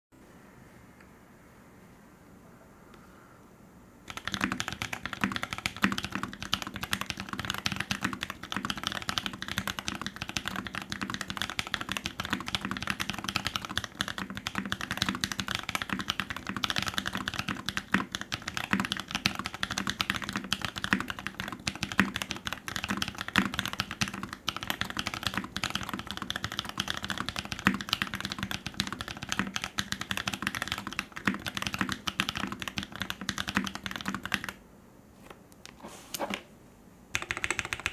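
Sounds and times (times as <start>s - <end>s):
fast typing on mechanical keyboard: 4.1s - 34.6s, 37.1s - 37.9s.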